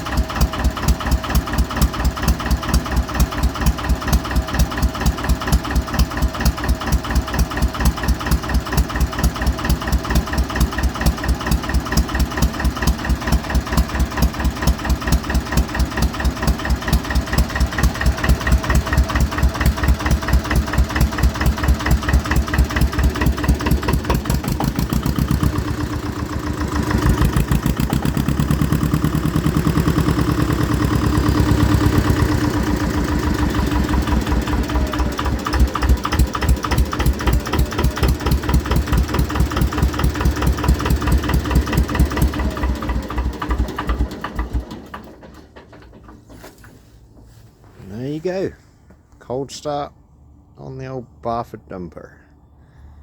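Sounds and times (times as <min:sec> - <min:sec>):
diesel engine cranking: 0:00.0 - 0:47.7
diesel engine running: 0:00.0 - 0:49.0.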